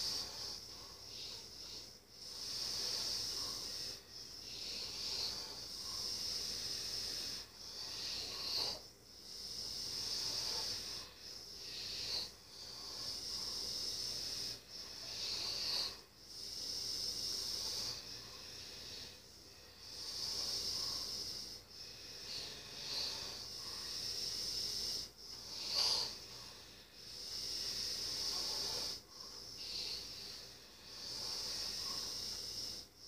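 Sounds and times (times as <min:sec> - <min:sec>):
wheezy breathing of sleeping person: 0:00.0 - 0:33.0.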